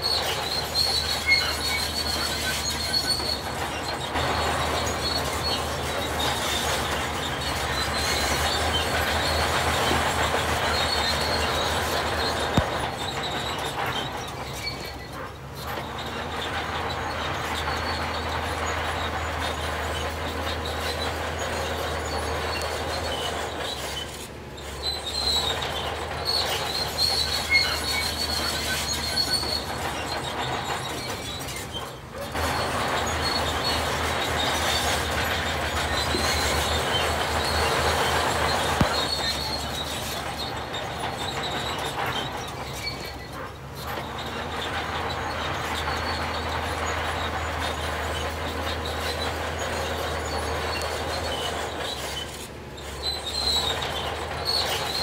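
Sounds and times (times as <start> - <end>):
diesel machinery engine drone: 0.0 - 55.0
metallic squealing and grinding: 0.0 - 55.0.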